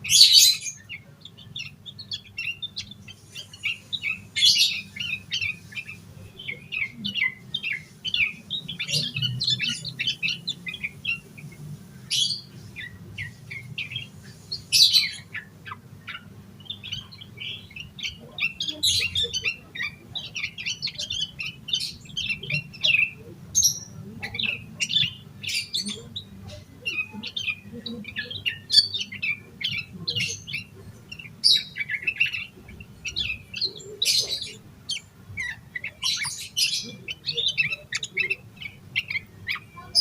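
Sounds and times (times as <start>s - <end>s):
bird chirping song: 0.0s - 40.0s.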